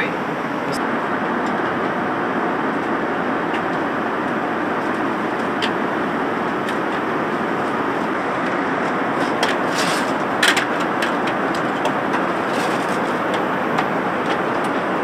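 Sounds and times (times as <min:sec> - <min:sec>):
airplane cabin rushing noise: 0:00.0 - 0:15.0.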